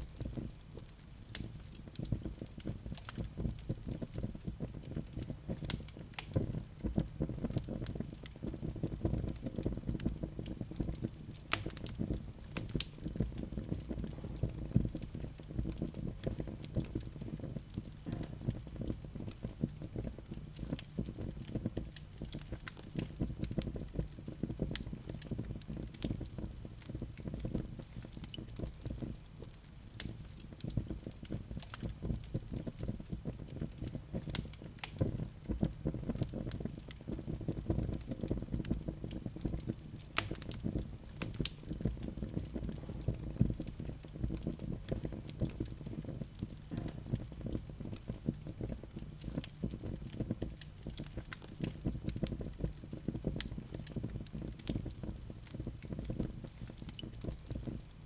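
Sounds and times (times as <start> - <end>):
low rumble of flames: 0.0 - 58.0
wood fire pops and snaps: 0.0 - 58.0.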